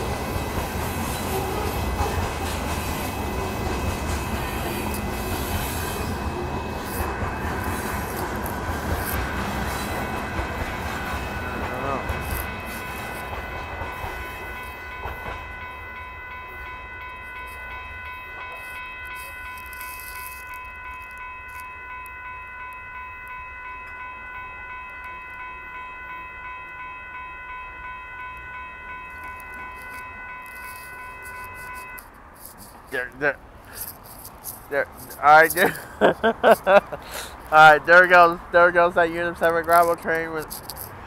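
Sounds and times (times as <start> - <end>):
train rumbling over rails: 0.0 - 19.6, 21.8 - 41.0
railroad crossing bell ringing: 0.0 - 41.0.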